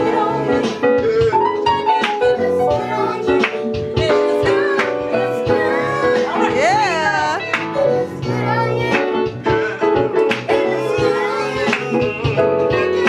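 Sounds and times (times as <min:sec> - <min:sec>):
girls singing: 0:00.0 - 0:00.8, 0:01.7 - 0:10.0, 0:10.6 - 0:13.0
song with steady beat: 0:00.0 - 0:13.0.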